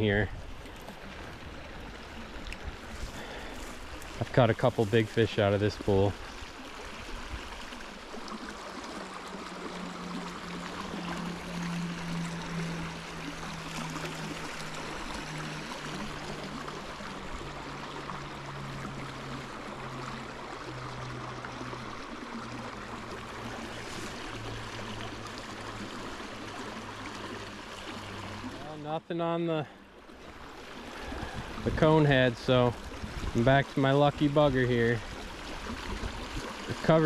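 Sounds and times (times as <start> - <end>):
low hum: 0.0 - 33.5
creek water rushing over gravel: 0.0 - 37.0.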